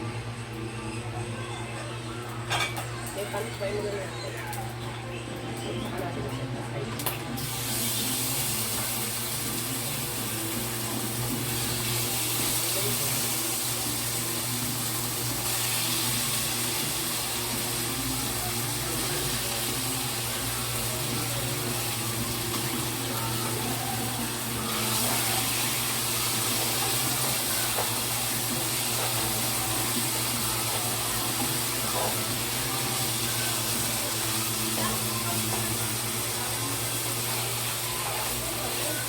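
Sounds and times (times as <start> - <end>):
meat sizzling in hot oil: 7.4 - 39.0.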